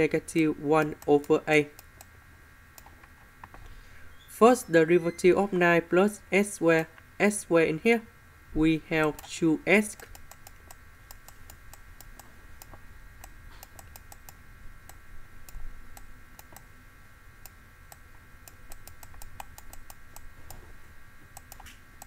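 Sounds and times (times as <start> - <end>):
faint electrical whine: 0.0 - 22.0.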